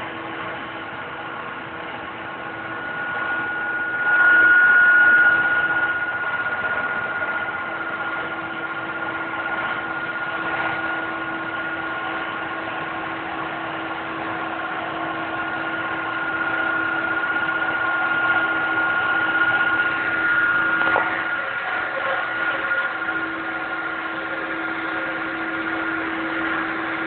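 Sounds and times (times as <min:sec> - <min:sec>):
jet engines idling: 0:00.0 - 0:27.0.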